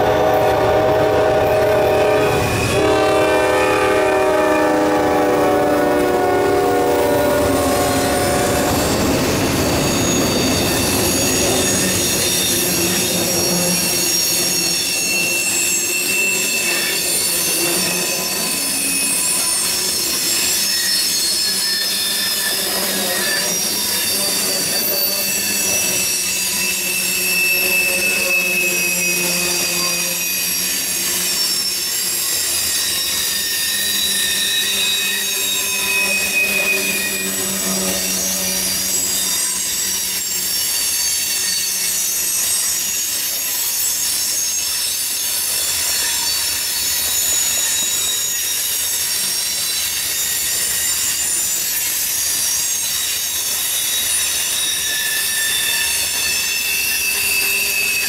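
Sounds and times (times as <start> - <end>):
diesel locomotives passing: 0.0 - 58.0
rumble of train wheels: 0.0 - 58.0
train wheels squealing: 0.0 - 58.0.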